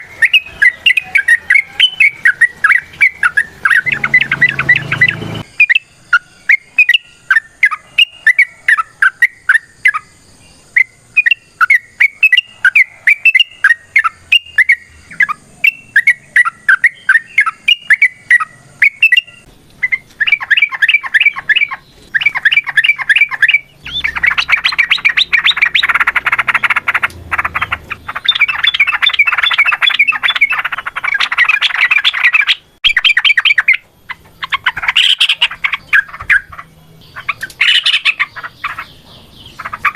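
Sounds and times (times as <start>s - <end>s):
bulbul singing warbling phrases: 0.0s - 39.9s.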